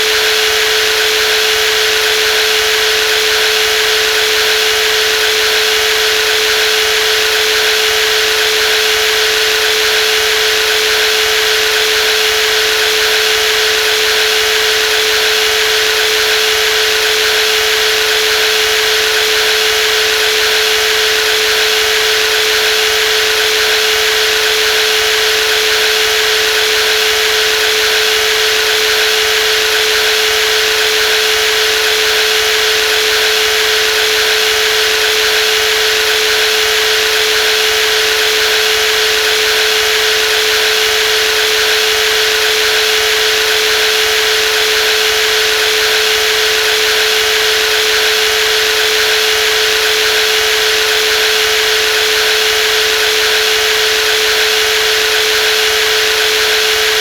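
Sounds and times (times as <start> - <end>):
jigsaw running steadily: 0.0 - 57.0.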